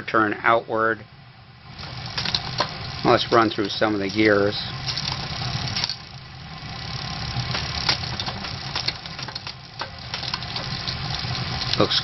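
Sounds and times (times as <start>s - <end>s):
bicycle chain humming over cassette: 1.5s - 12.0s
rear derailleur shifting clicks: 1.8s - 12.0s.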